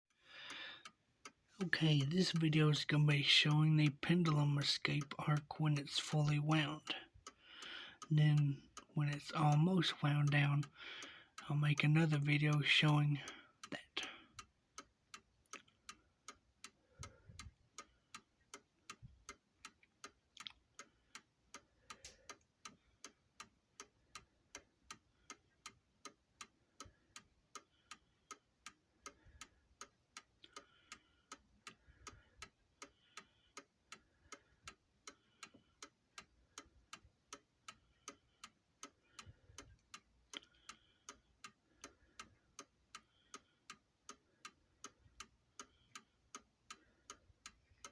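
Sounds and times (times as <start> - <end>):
clock ticking: 0.1 - 47.9.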